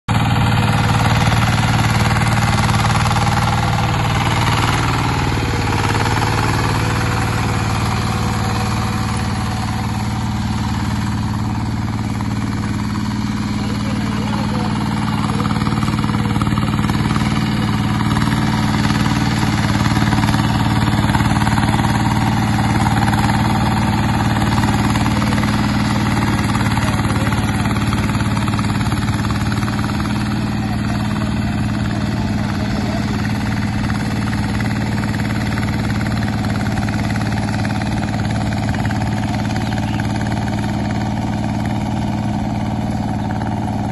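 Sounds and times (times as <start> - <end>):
diesel tiller engine running: 0.1 - 43.9.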